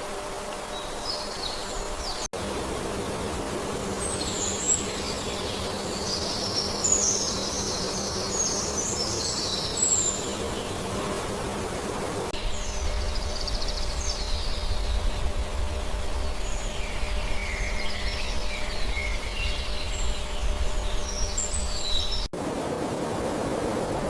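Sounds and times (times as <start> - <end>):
forest ambience rush: 0.0 - 24.0
birds chirping and trilling: 0.7 - 2.3, 3.8 - 22.3.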